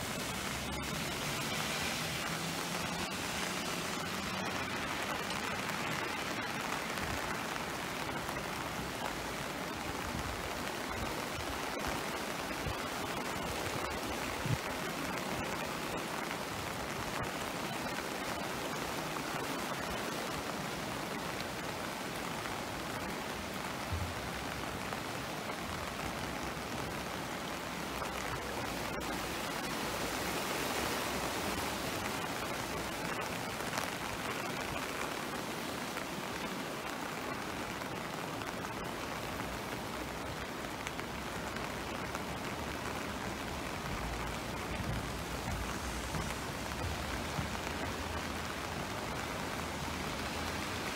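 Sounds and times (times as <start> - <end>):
river rushing: 0.0 - 50.9.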